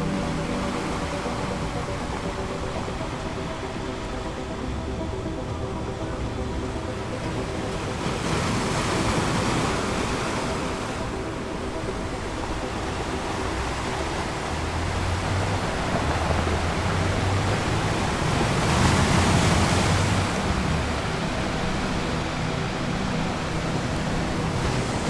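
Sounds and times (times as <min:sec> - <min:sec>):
low steady drone: 0:00.0 - 0:25.0
ocean waves washing in: 0:00.0 - 0:25.0.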